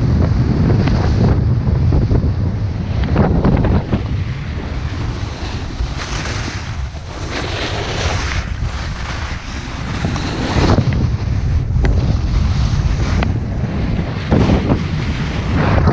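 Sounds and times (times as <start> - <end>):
wind buffeting microphone: 0.0 - 15.9
snowboard edges scraping snow: 2.6 - 15.9.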